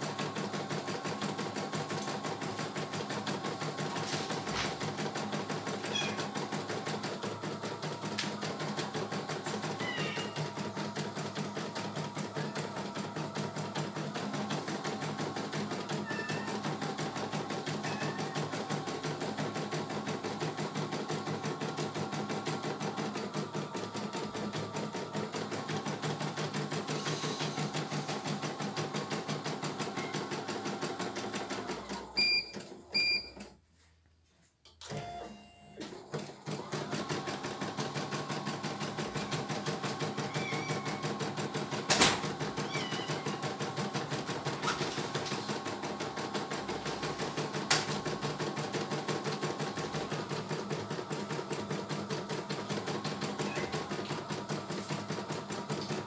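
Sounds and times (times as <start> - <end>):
embroidery machine stitching: 0.0 - 33.4, 35.8 - 56.0.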